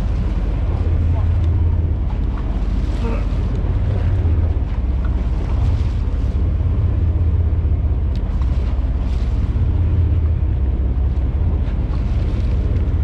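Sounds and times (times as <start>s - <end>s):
boat engine rumbling: 0.0s - 13.0s
wind on microphone: 0.0s - 13.0s.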